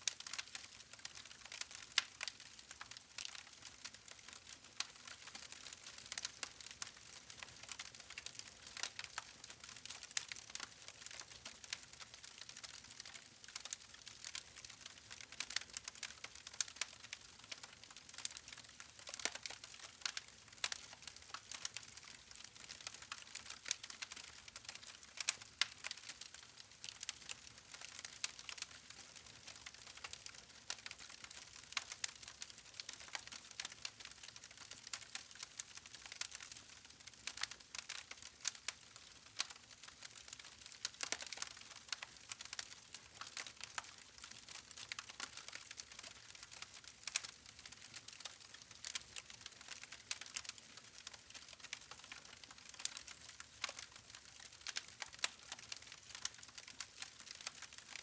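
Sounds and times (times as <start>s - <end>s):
faint steady hiss: 0.0s - 58.0s
wood fire crackling and popping: 0.1s - 58.0s.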